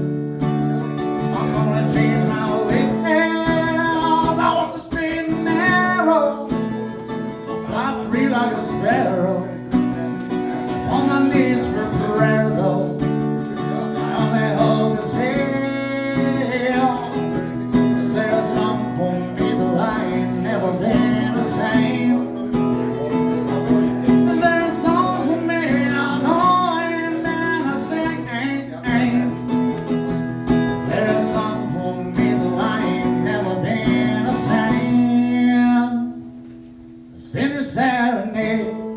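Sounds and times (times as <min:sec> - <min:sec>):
acoustic guitar: 0:00.0 - 0:38.9
person singing: 0:01.2 - 0:29.5, 0:30.5 - 0:36.3.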